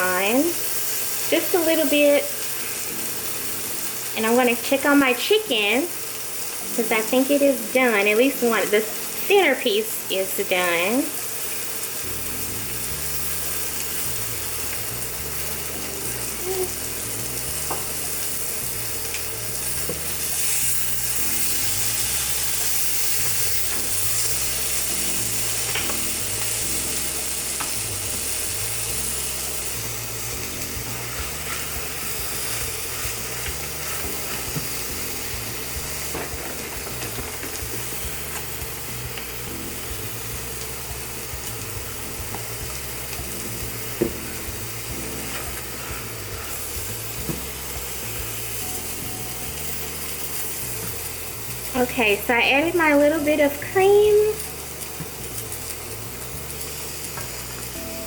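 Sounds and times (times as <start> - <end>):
food sizzling in pans: 0.0 - 58.0.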